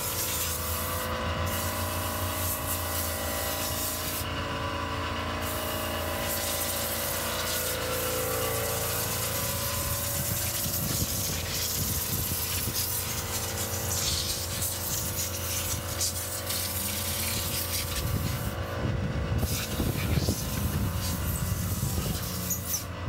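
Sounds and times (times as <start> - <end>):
compressed air hissing: 0.0 - 4.4, 5.3 - 18.7, 19.4 - 22.9
steady low hum: 0.0 - 23.0.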